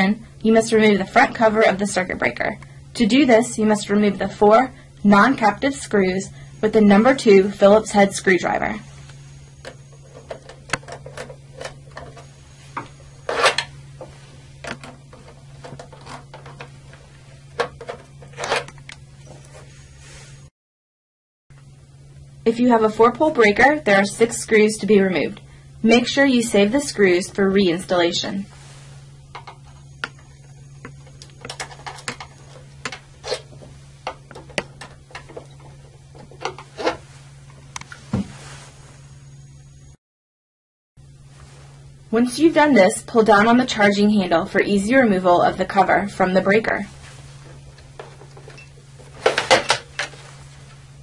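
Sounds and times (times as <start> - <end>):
steady low hum: 0.0 - 20.5, 21.5 - 40.0, 41.0 - 51.0.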